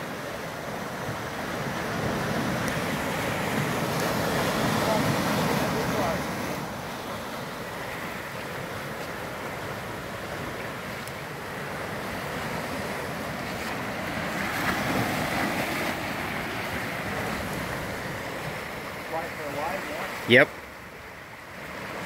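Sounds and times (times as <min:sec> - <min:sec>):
ocean surf washing over rocks: 0:00.0 - 0:22.0.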